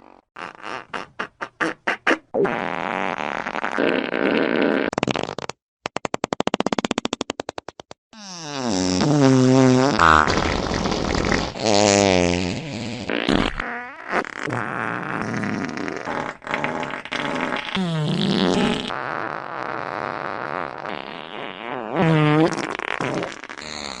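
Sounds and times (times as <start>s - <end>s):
farts: 0.0s - 24.0s.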